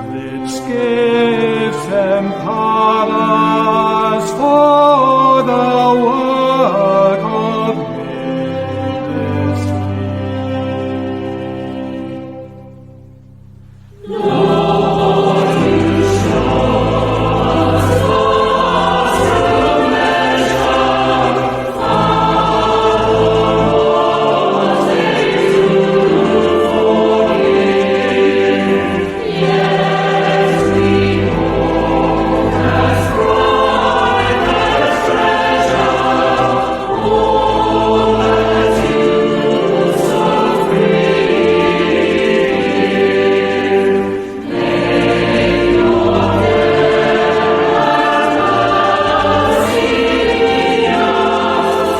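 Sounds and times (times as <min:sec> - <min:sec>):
choir singing church music: 0:00.0 - 0:51.9.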